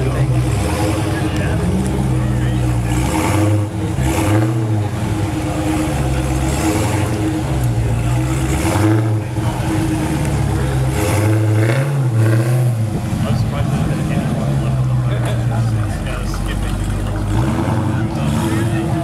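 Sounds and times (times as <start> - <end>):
engine throttle blips: 0.0 - 19.0
sports car engine idling: 0.0 - 19.0.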